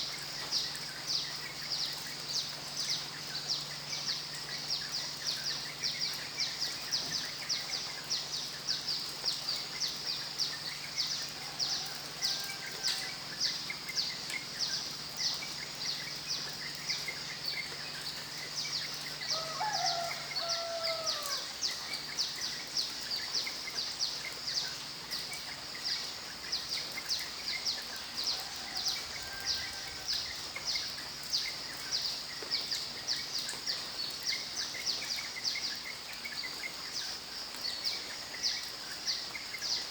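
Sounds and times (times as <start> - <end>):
insects chirping: 0.0 - 39.9
soft steady hiss: 0.0 - 39.9.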